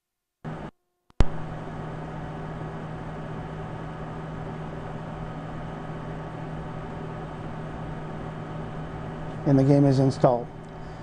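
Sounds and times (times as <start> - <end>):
electrical hum: 0.5 - 11.0
fan noise: 0.5 - 11.0.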